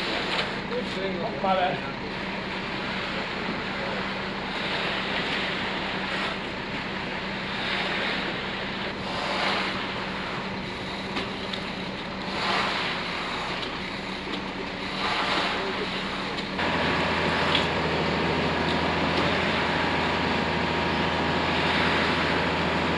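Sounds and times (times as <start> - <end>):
concrete pouring: 0.0 - 22.9
diesel truck engine humming: 0.0 - 22.9.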